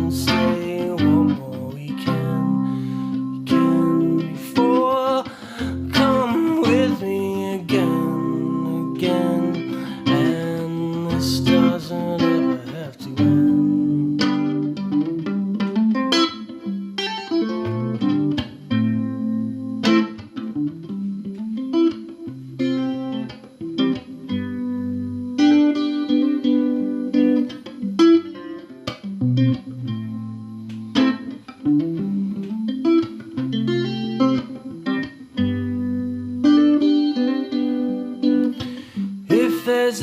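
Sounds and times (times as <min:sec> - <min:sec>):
fingerpicked guitar: 0:00.0 - 0:40.0.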